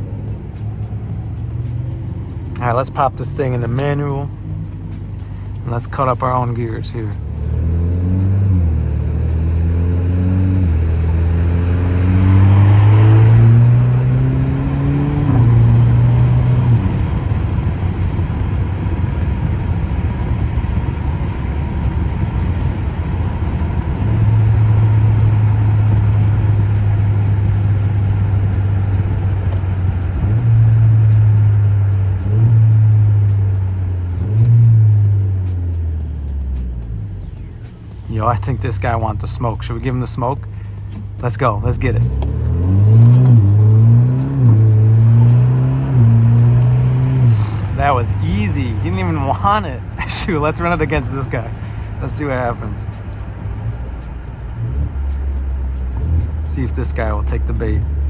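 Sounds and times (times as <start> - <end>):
car engine accelerating: 0.0 - 58.0
road noise: 0.0 - 58.0.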